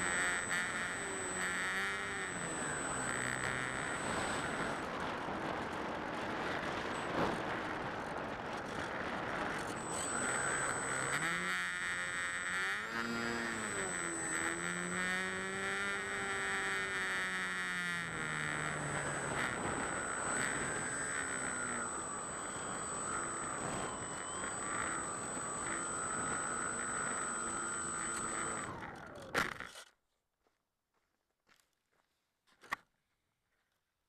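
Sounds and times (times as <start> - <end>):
model plane motor and propeller: 0.0 - 30.0.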